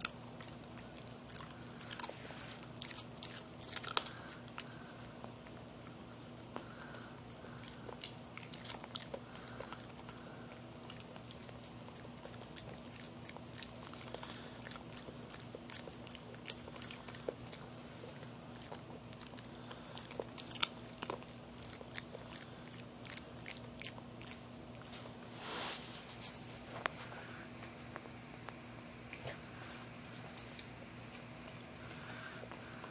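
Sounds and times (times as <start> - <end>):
dog crunching a carrot: 0.0 - 25.2, 25.8 - 32.9.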